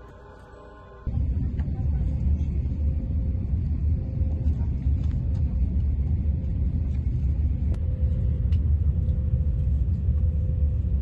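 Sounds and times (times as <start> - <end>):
train rumbling inside carriage: 1.0 - 11.0.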